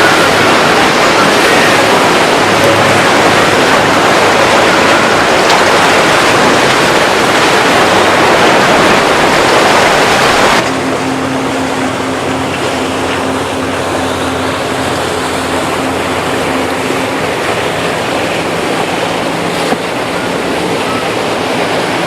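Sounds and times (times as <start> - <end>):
boat engine tone: 0.0 - 22.0
wind and water rushing: 0.0 - 22.0.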